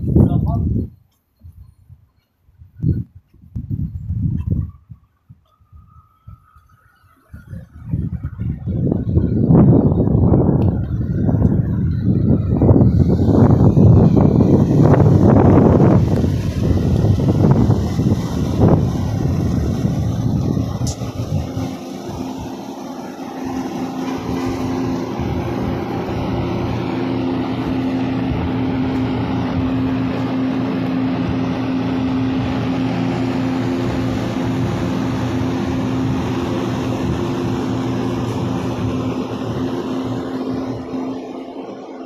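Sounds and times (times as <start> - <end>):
street noise: 0.0 - 42.0
motor drone: 5.5 - 42.0.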